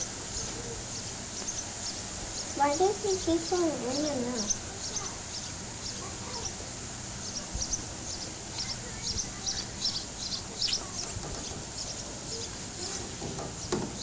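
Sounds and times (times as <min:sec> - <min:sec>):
small birds chirping: 0:00.0 - 0:14.0
steady hiss: 0:00.0 - 0:14.0.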